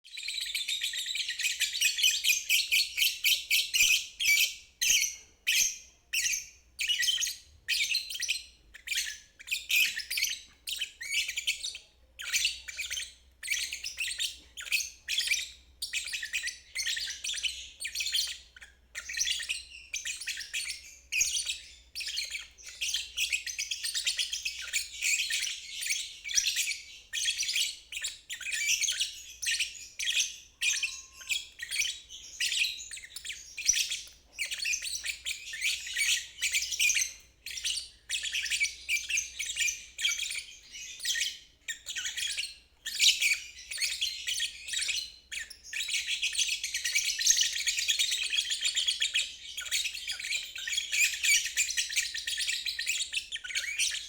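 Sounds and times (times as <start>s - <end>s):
lovebird chattering song: 0.1s - 54.0s.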